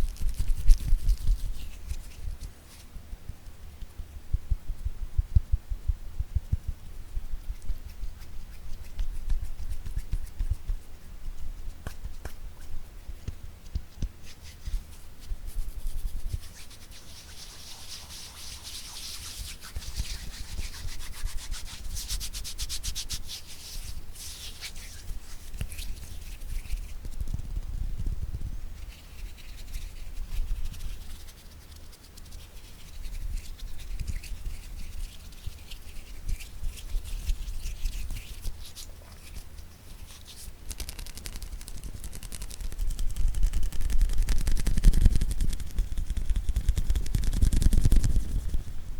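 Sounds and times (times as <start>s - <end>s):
hissy hand rubbing: 0.0s - 3.0s, 6.6s - 27.7s, 28.7s - 48.8s.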